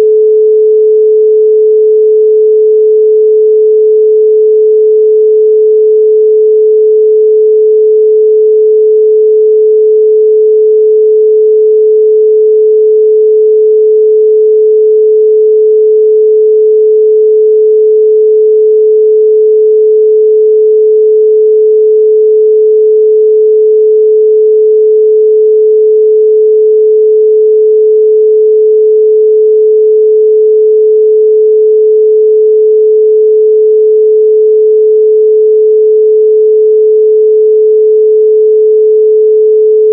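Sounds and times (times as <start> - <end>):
loud pure sine tone: 0.0 - 39.9.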